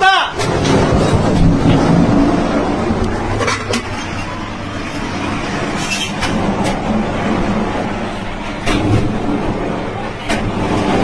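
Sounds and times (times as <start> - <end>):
rush of fire and venting gas: 0.3 - 11.0.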